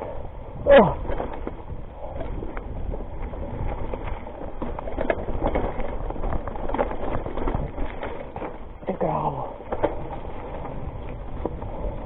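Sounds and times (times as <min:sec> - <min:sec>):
mountain bike rattling over rocks: 0:00.0 - 0:12.0.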